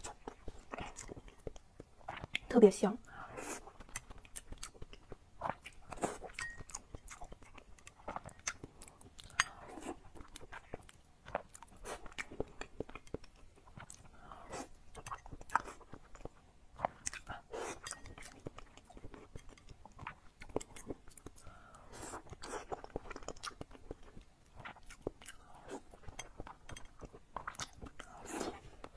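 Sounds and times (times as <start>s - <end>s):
wet chewing and lip smacks: 0.0s - 2.5s, 3.6s - 28.9s.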